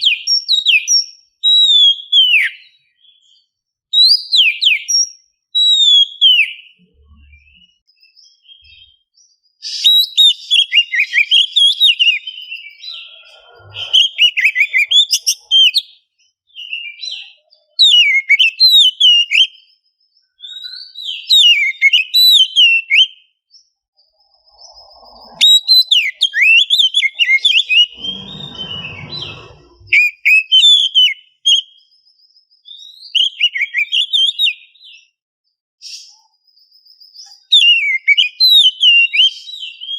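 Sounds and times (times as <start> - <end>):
bird singing whistled phrases: 0.0 - 3.4, 4.0 - 23.4, 24.0 - 31.9, 32.6 - 35.1, 35.8 - 39.9.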